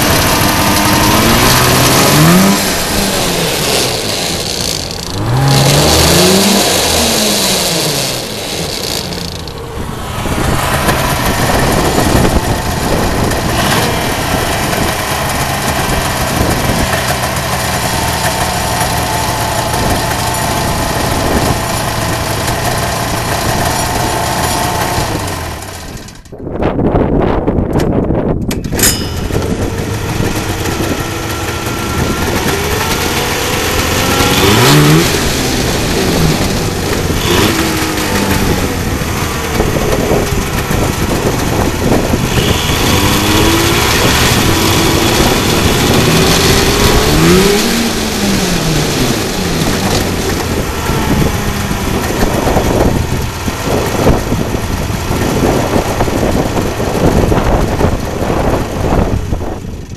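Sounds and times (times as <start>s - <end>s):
snowmobile engine revving: 0.0s - 26.2s, 28.9s - 59.5s.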